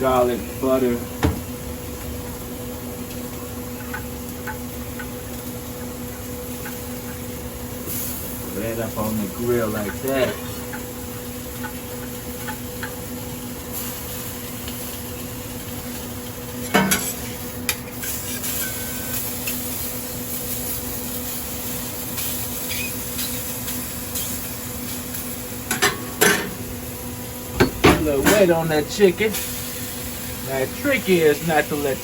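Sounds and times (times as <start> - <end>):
exhaust fan humming: 0.0 - 32.0
food sizzling on a grill: 0.0 - 32.0.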